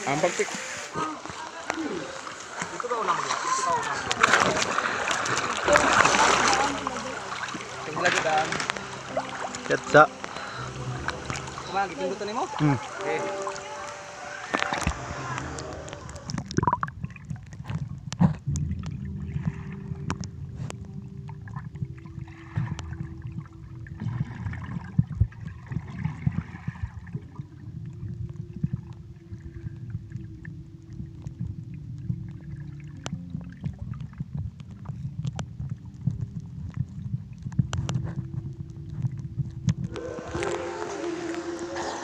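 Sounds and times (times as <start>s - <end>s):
underwater clicks and bubbling: 1.0s - 42.0s
underwater low rumble: 1.0s - 42.0s
faint steady hum: 1.7s - 42.0s.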